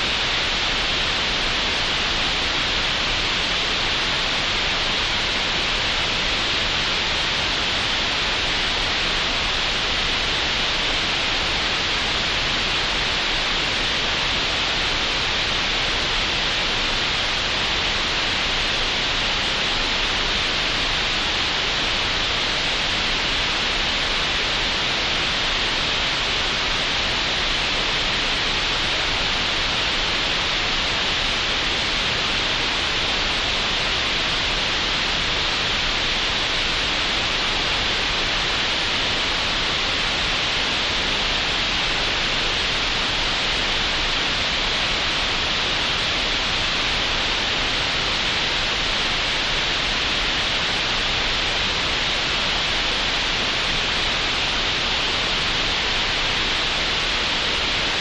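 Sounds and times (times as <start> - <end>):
steady synthetic hiss: 0.0 - 58.0.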